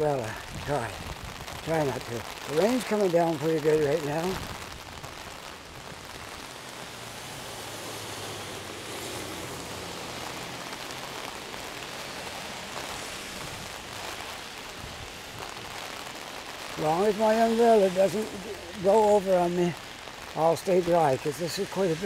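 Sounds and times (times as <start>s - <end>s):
heavy rain on an umbrella: 0.0s - 22.0s
rain on pavement: 0.0s - 22.0s.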